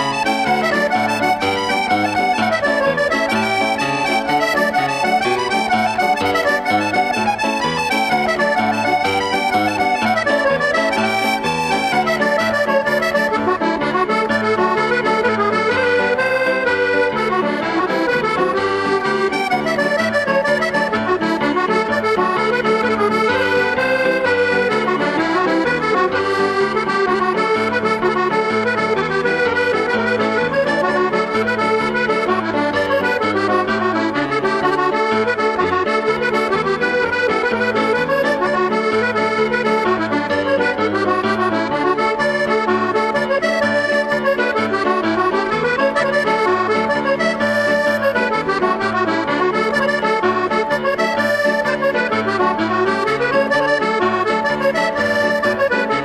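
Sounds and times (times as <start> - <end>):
lively accordion tune: 0.0 - 56.0.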